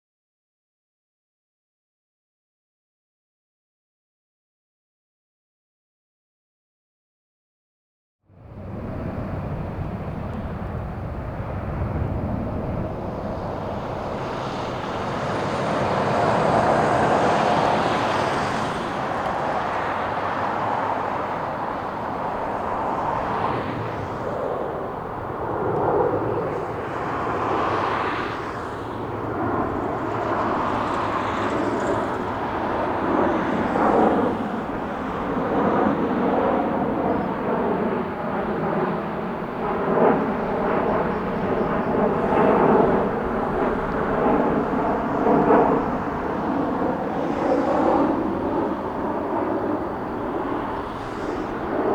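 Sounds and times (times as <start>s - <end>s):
jet engines passing: 8.3s - 51.9s.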